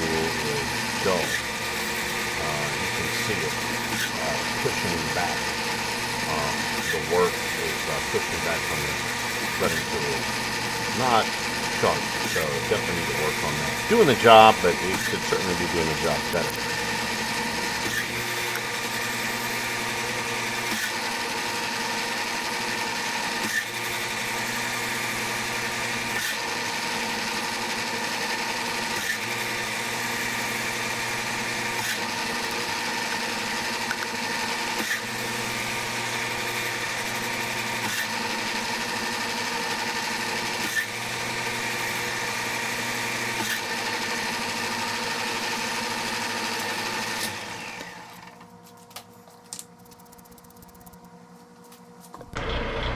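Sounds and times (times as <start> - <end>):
metal lathe motor hum: 0.0 - 48.4, 52.2 - 52.9.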